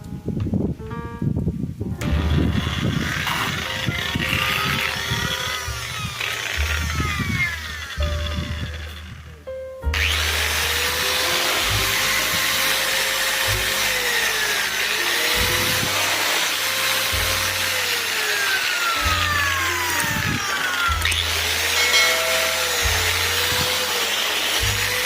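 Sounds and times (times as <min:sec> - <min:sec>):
angle grinder grinding: 0:02.0 - 0:25.0.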